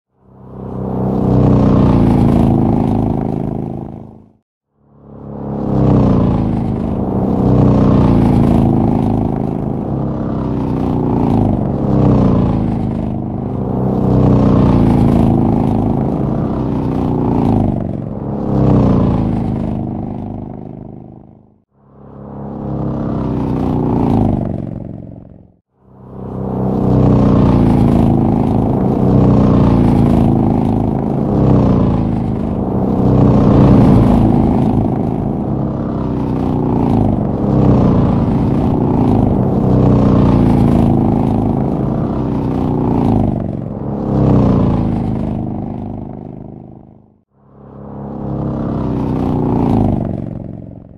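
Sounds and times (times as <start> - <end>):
motorcycles passing: 0.2 - 50.9.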